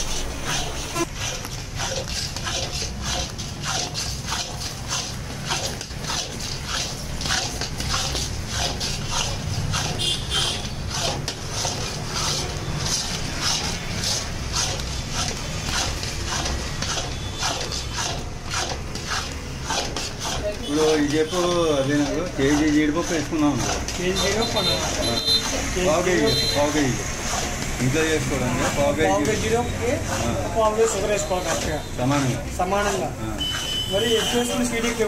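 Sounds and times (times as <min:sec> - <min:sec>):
metal spatula scraping pan: 0:00.0 - 0:35.0.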